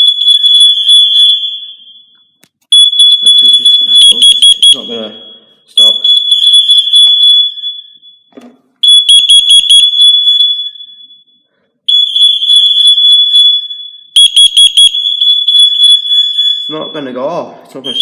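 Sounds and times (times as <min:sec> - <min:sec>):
shrill alarm beeping: 0:00.0 - 0:18.0.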